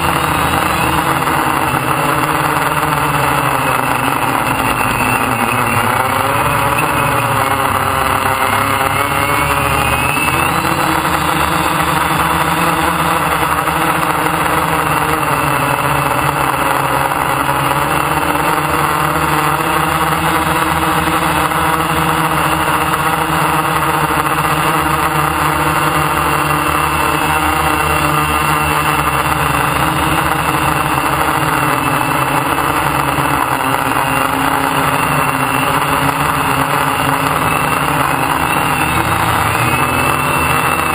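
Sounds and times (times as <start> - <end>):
drone motors and propellers buzzing: 0.0 - 40.9.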